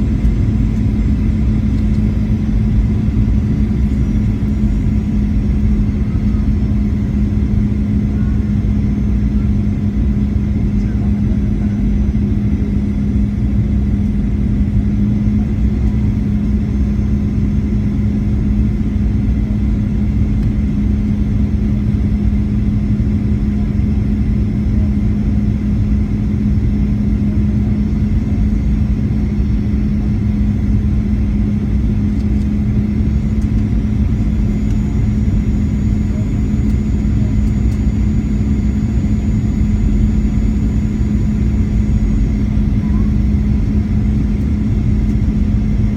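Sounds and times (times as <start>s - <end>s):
airplane cabin engine rumble: 0.0s - 45.9s.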